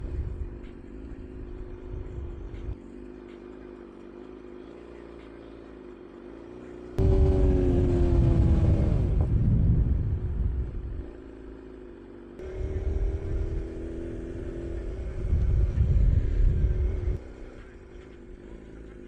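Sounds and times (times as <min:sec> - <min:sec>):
heavy low engine rumble: 0:00.0 - 0:19.0
motorcycle engine idling: 0:00.0 - 0:19.0.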